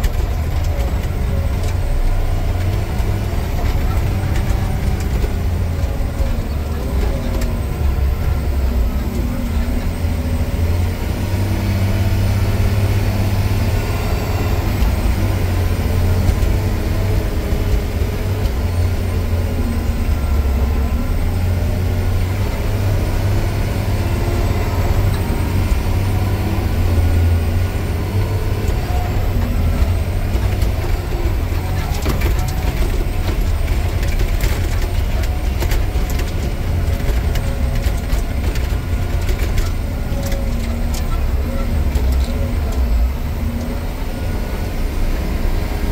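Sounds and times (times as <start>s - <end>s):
diesel truck engine drone: 0.0s - 45.9s
truck clattering over rough road: 0.0s - 45.9s.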